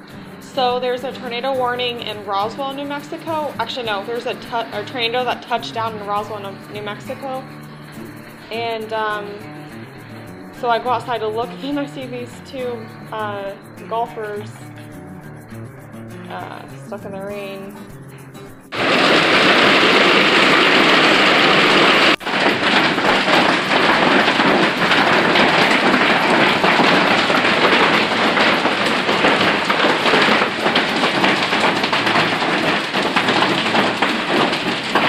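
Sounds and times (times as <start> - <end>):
hail and rain on a patio: 0.0 - 14.4, 18.7 - 35.0.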